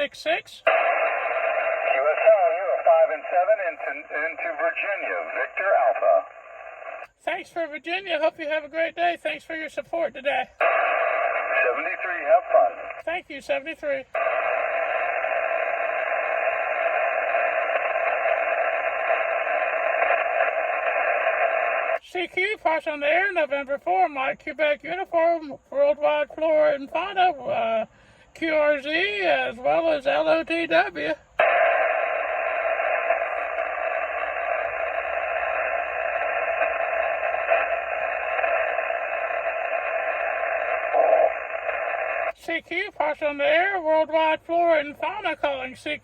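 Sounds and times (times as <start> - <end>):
radio receiver hiss: 0.0 - 46.0.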